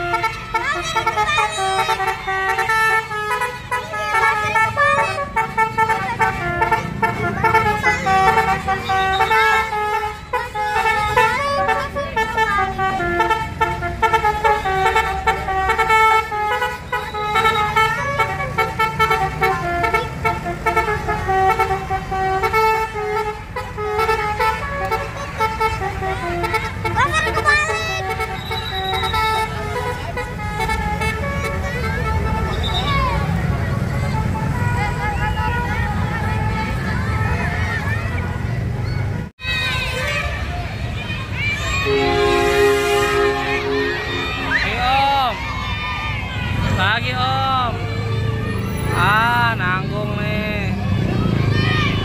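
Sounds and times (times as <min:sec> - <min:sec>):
bus horn playing a tune: 0:00.0 - 0:38.7, 0:39.3 - 0:40.6, 0:41.8 - 0:45.1
bus engine rumble: 0:00.0 - 0:52.0.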